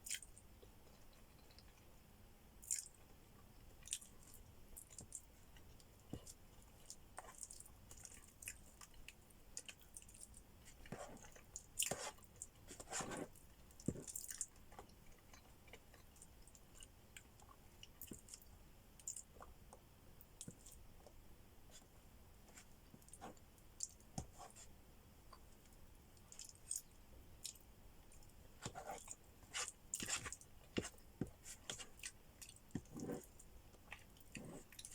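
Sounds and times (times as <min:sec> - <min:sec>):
person chewing food: 0:00.0 - 0:01.9, 0:02.6 - 0:21.9, 0:25.3 - 0:34.9.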